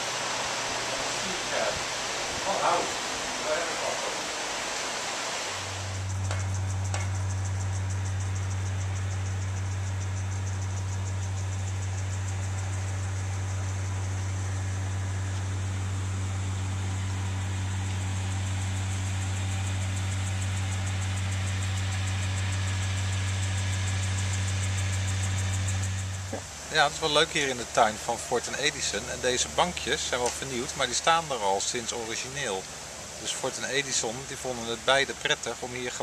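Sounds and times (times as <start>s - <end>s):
low mechanical hum: 0.0s - 36.0s
steady hiss: 0.0s - 36.0s.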